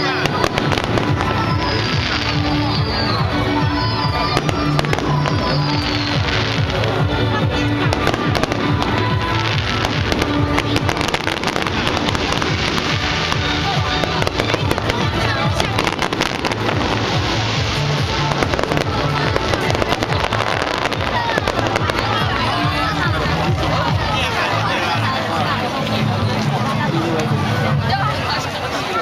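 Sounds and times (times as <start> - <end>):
fireworks crackling and banging: 0.0 - 27.8
loud music: 0.0 - 28.1.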